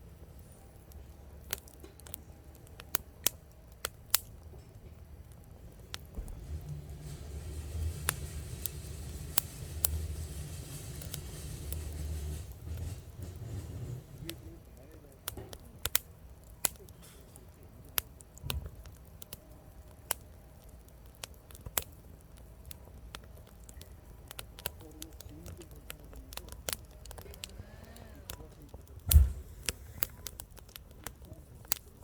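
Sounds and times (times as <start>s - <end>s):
firewood crackling and popping: 0.0s - 32.0s
low rumble of fire: 0.0s - 32.0s.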